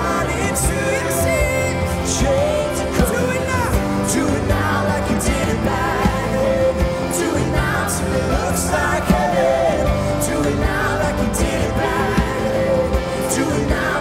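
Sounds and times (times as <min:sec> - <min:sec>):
bass: 0:00.0 - 0:14.0
drum kit with cymbals: 0:00.0 - 0:14.0
guitars: 0:00.0 - 0:14.0
people singing: 0:00.0 - 0:14.0.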